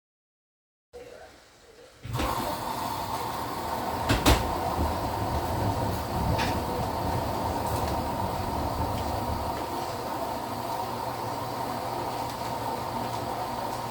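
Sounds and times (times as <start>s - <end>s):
washing machine rumbling: 1.9s - 13.9s.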